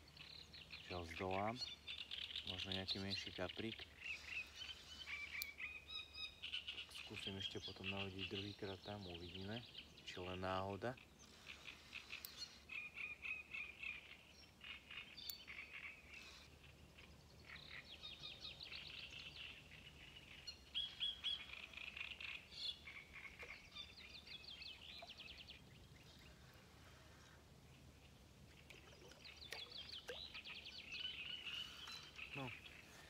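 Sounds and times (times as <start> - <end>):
birds singing: 0.0 - 33.0.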